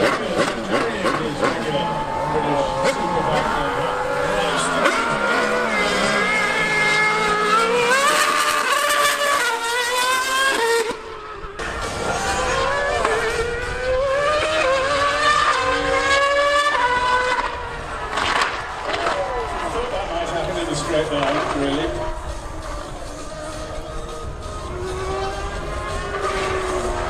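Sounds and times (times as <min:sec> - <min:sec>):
high-revving racing engines: 0:00.0 - 0:27.0.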